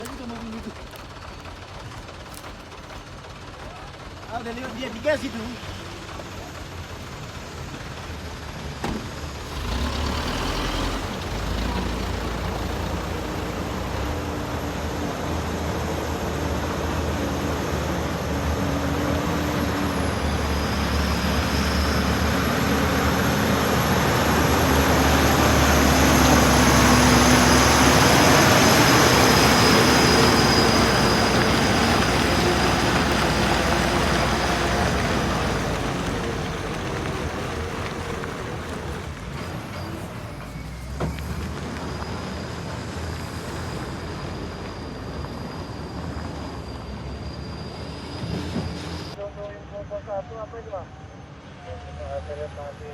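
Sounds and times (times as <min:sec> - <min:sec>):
truck diesel engine labouring: 0:00.0 - 0:52.9.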